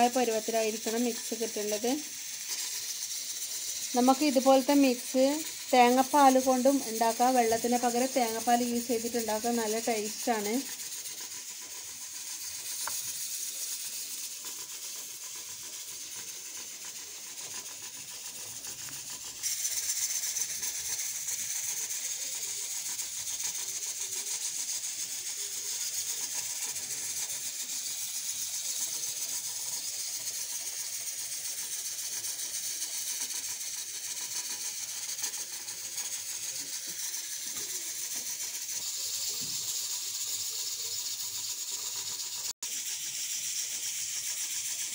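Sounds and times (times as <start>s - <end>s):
steady high-pitched hiss: 0.0s - 44.9s.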